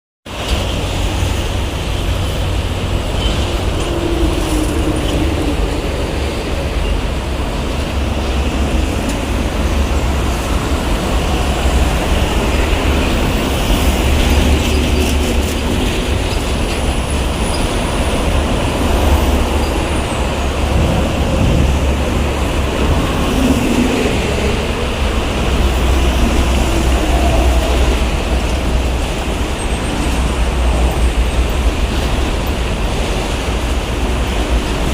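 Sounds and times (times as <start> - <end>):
heavy highway traffic rumble: 0.2 - 34.9.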